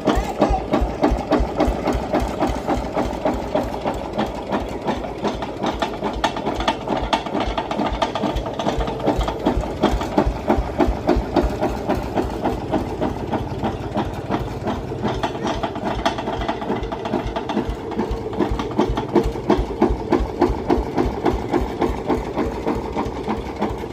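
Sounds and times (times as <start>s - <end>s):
diesel engine idling with knock: 0.0s - 23.9s.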